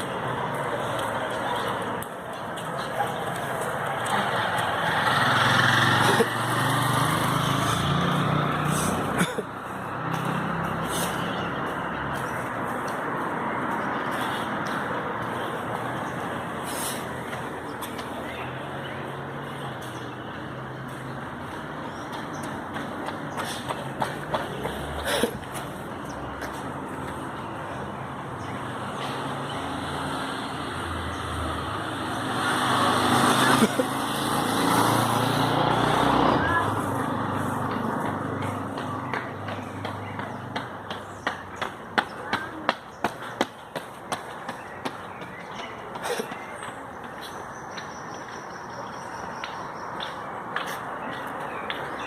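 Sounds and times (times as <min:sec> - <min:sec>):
street noise: 0:00.0 - 0:52.0.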